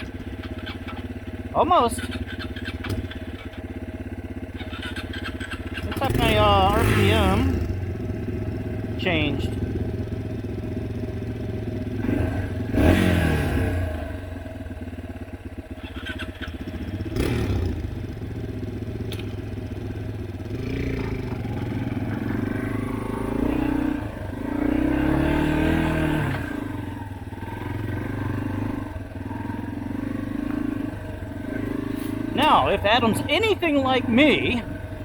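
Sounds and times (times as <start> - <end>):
dirt bike engine revving: 0.0 - 14.4, 15.7 - 35.0.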